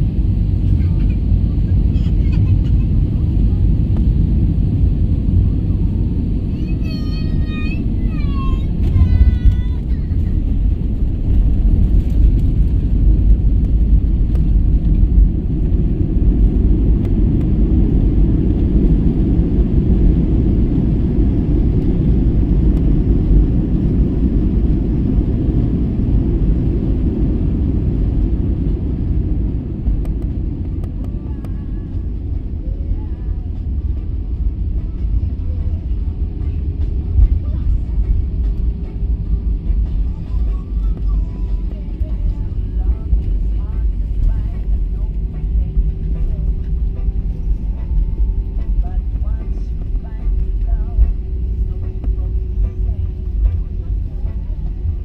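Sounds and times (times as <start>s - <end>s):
airliner rumbling on runway: 0.0s - 55.0s.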